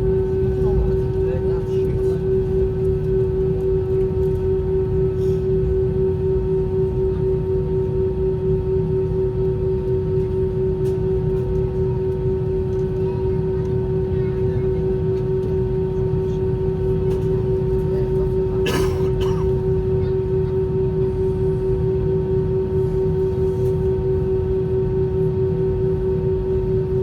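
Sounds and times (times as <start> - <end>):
aircraft cabin engine rumble: 0.0 - 27.0
constant mid-pitched whine: 0.0 - 27.0.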